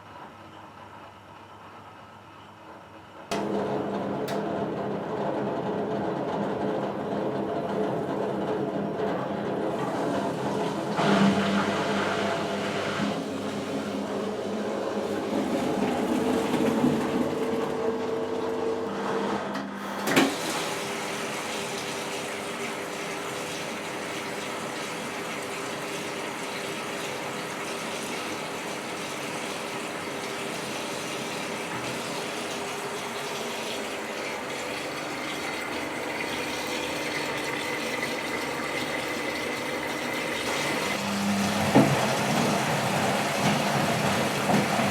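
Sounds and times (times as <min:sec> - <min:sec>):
washing machine humming: 0:00.0 - 0:44.9.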